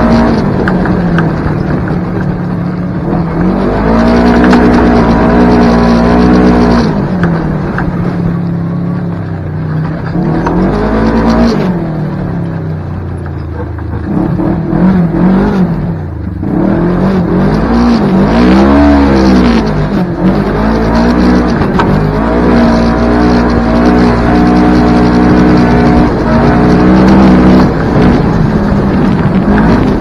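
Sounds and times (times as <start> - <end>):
engine exhaust revving: 0.0 - 12.6, 13.5 - 30.0.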